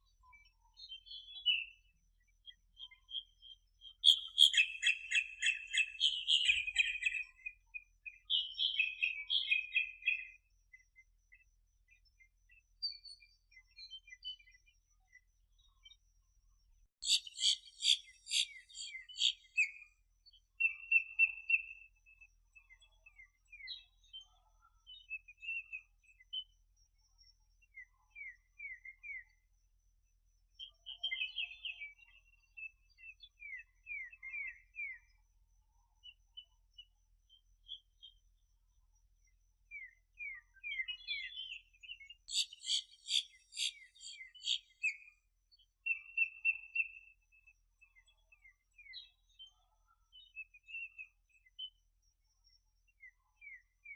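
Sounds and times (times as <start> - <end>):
small birds chirping and trilling: 0.0 - 53.9.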